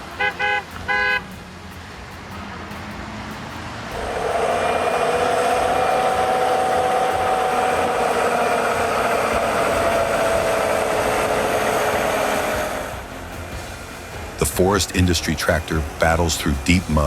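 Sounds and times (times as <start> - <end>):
heavy vehicle engine running: 0.0 - 17.0
high whine sinking in pitch: 1.6 - 17.0.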